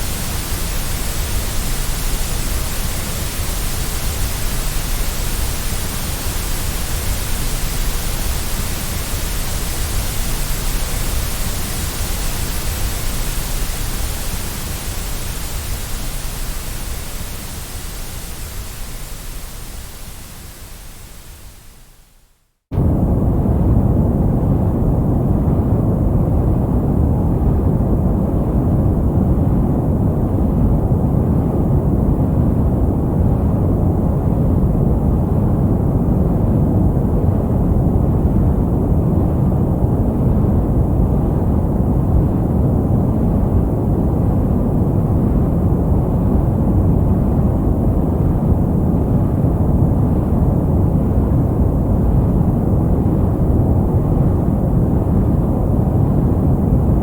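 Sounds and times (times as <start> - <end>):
brown noise rumbling hiss: 0.0 - 25.9, 26.5 - 57.0.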